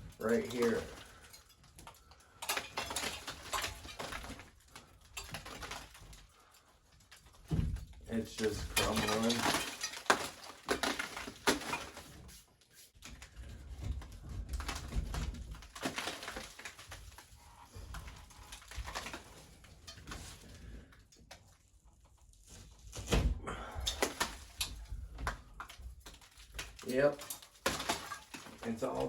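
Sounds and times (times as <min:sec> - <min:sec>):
drywall crackling and scraping: 0:00.0 - 0:29.0.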